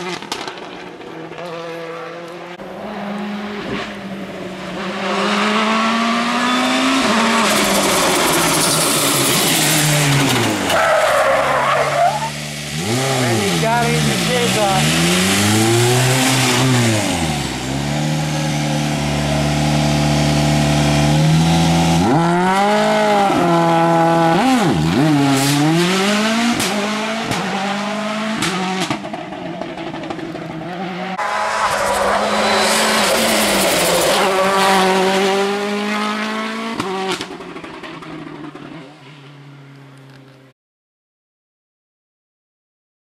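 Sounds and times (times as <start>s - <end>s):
rally car engine revving: 0.0s - 40.3s.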